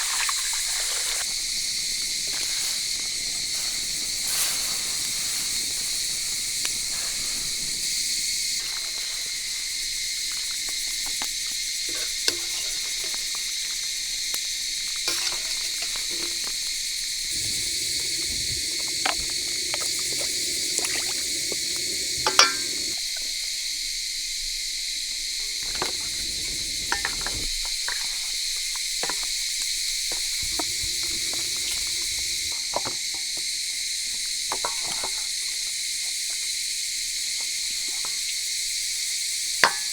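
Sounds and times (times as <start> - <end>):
insects chirping chorus: 0.0 - 39.9.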